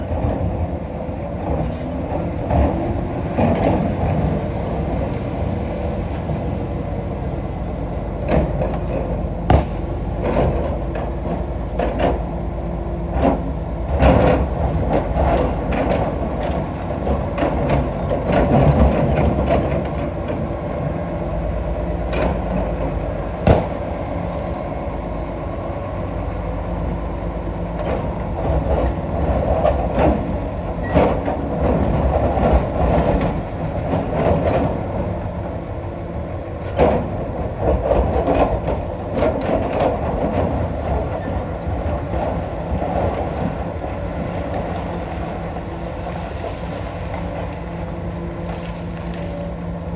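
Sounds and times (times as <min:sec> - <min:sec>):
excavator engine droning: 0:00.0 - 0:49.9.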